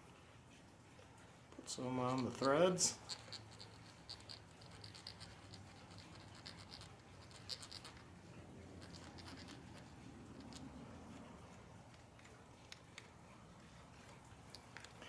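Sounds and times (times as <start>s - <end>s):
faint scratching and small clicks: 0.9s - 15.0s.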